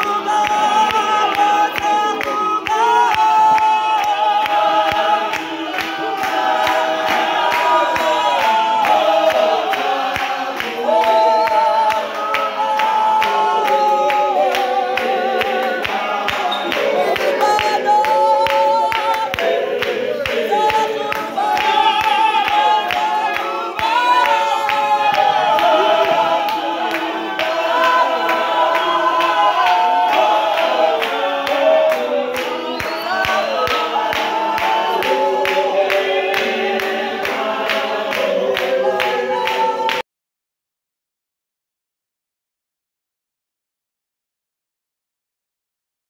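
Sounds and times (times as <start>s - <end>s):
group singing unaccompanied: 0.0s - 40.0s
handclaps: 0.0s - 40.0s.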